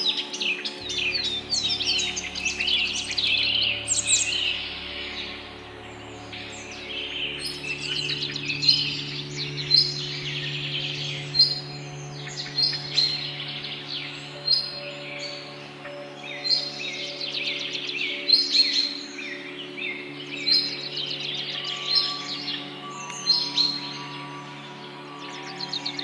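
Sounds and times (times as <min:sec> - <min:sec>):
birds chirping and calling: 0:00.0 - 0:26.0
steady low hum: 0:00.6 - 0:26.0.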